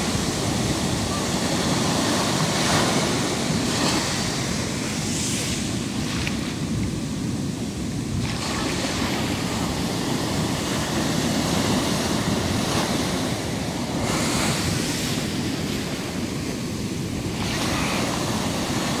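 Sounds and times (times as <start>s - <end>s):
sea waves breaking on beach: 0.0s - 19.0s
wind buffeting microphone: 0.0s - 19.0s.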